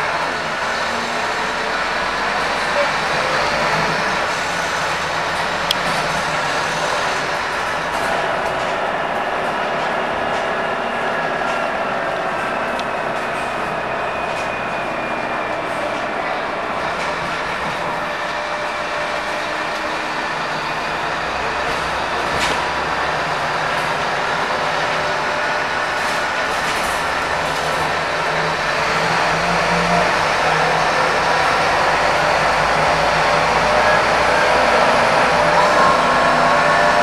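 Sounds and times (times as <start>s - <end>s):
bus diesel engine droning: 0.0s - 37.0s
road and tyre noise: 0.0s - 37.0s.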